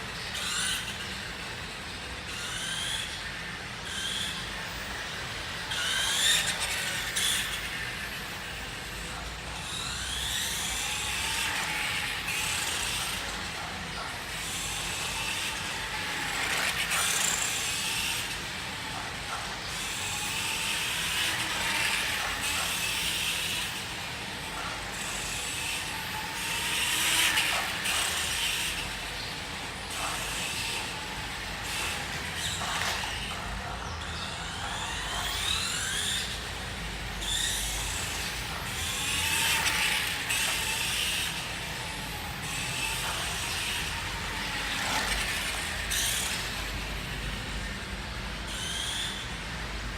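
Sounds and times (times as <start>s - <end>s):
electric motor and gearbox whining: 0.0s - 49.9s.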